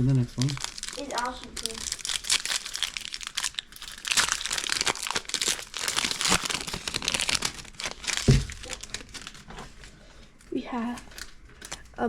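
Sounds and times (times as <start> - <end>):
wrapper crinkling and tearing: 0.0 - 12.0.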